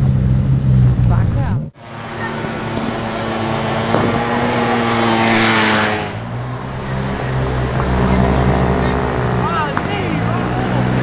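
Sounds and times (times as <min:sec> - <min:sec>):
car engine passing slowly: 0:00.0 - 0:11.0
exhaust and tyre noise: 0:00.0 - 0:11.0.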